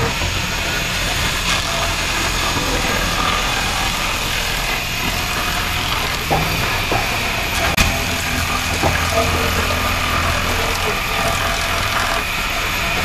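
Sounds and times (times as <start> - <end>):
circular saw ripping wood: 0.0 - 13.0.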